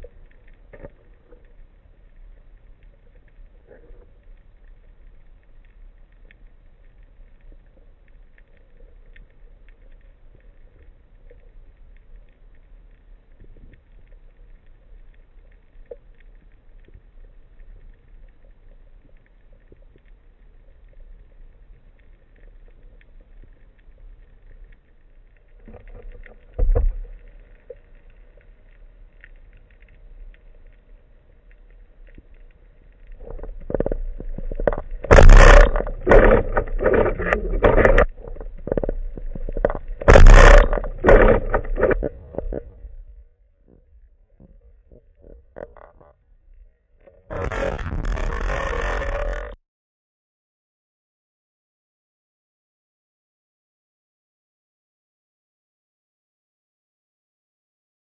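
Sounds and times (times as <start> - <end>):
low underwater rumble: 0.0 - 49.6.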